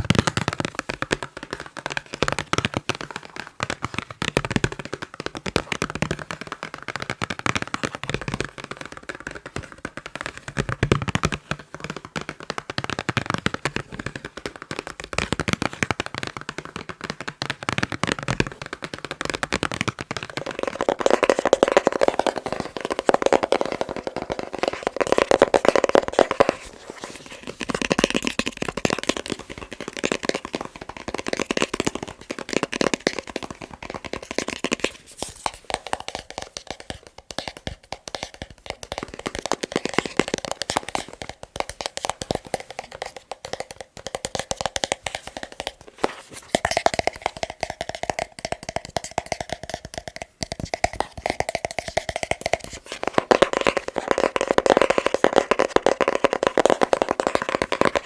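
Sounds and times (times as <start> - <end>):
fast tapping on boxes: 0.0 - 58.0.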